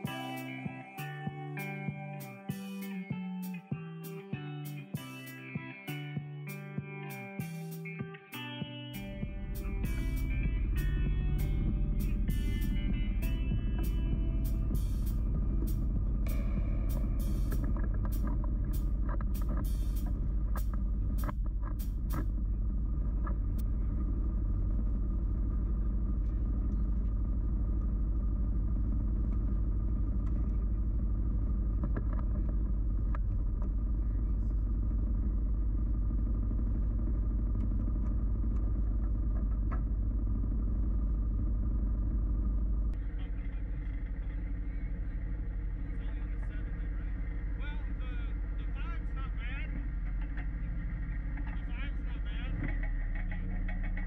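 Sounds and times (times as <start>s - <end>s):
utility vehicle engine running: 7.4s - 54.0s.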